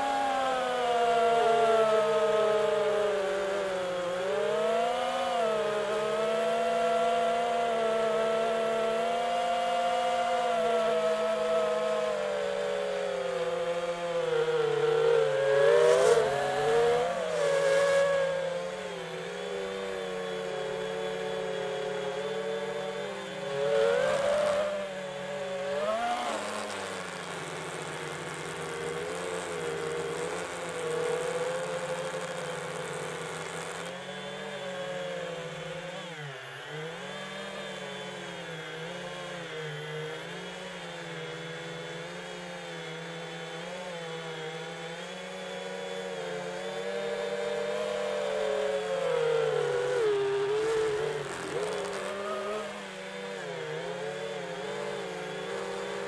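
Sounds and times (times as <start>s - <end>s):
drone motors whining: 0.0s - 56.0s.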